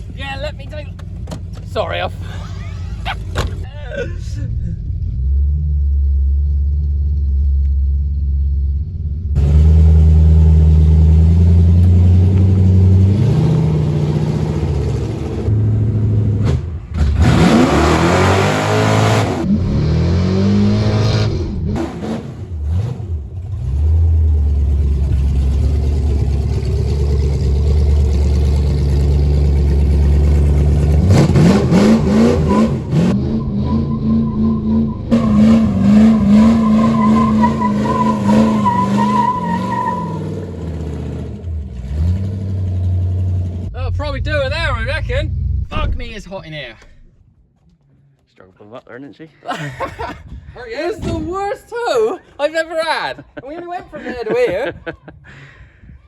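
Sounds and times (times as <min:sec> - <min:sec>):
car engine revving under load: 0:00.9 - 0:46.0.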